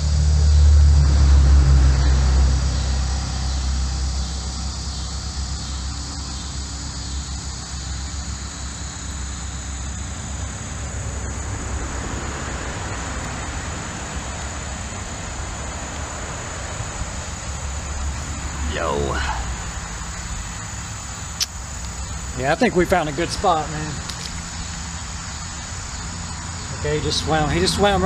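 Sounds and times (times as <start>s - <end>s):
highway traffic rumble: 0.0s - 28.0s.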